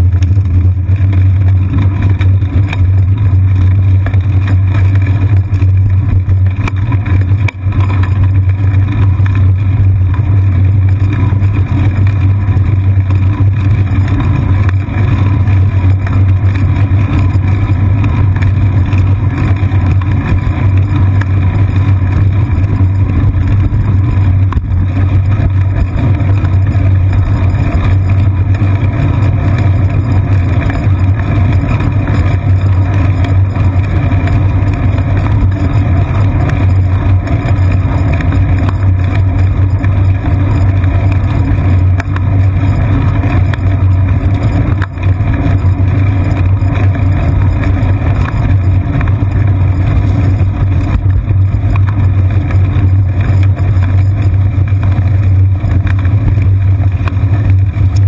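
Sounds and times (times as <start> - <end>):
bicycle rumbling along street: 0.0 - 58.0.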